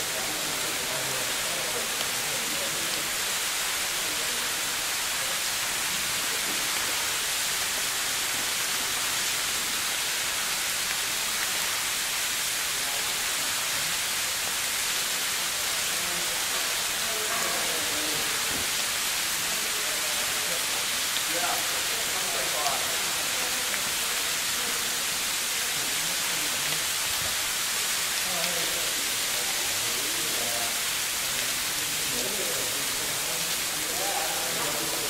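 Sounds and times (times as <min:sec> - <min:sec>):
outdoor noise hiss: 0:00.0 - 0:35.0.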